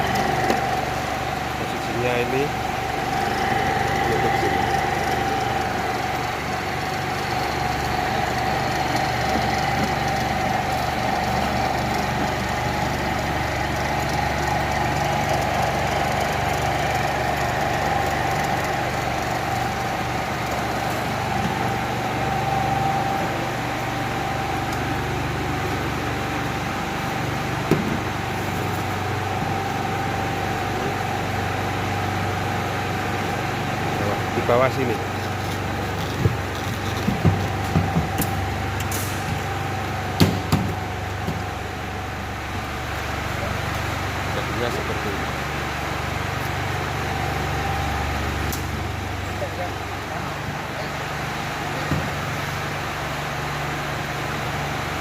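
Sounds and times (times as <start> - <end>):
ice machine hum and whine: 0.0 - 55.0.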